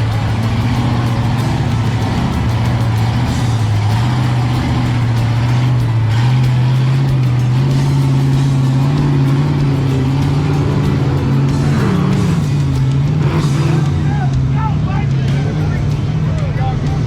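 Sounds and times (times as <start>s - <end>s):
truck engine at high revs: 0.0s - 17.0s.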